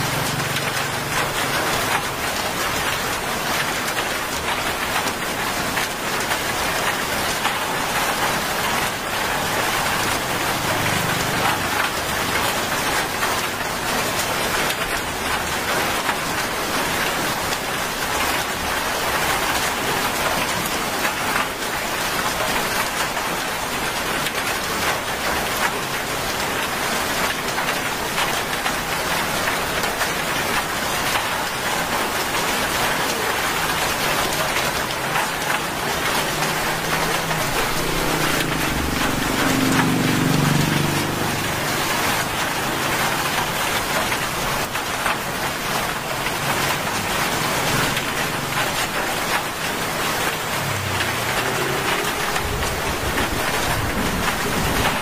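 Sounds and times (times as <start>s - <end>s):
rain falling on wet road: 0.0s - 55.0s.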